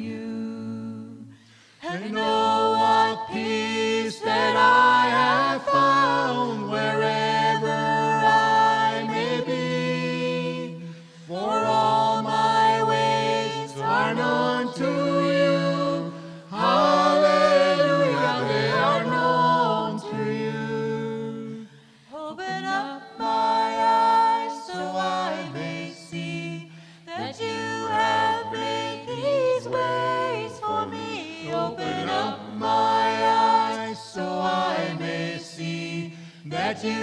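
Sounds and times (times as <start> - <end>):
voices singing a hymn in harmony: 0.0 - 37.0.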